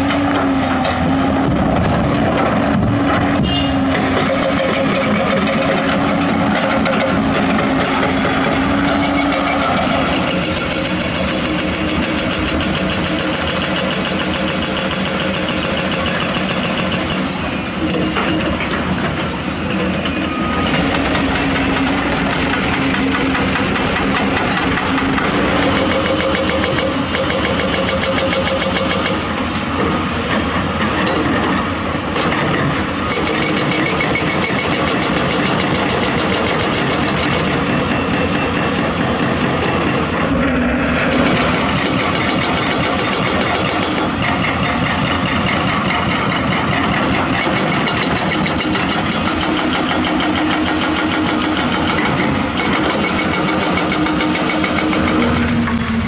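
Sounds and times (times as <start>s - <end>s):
excavator diesel engines running: 0.0s - 56.0s.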